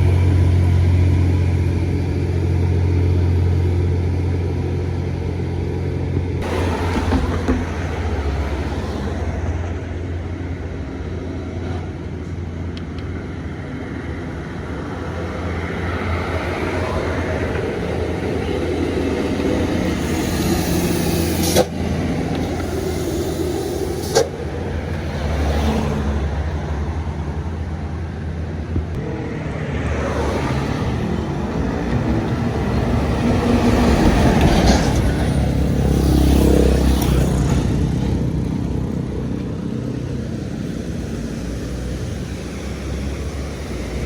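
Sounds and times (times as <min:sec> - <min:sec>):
buses and trucks passing: 0:00.0 - 0:44.0.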